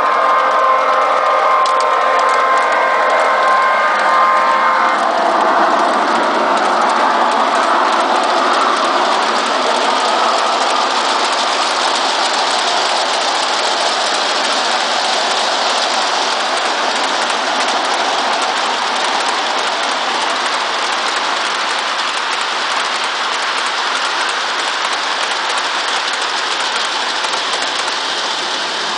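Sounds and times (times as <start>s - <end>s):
model train wheels clattering: 0.0s - 3.6s, 4.9s - 28.9s.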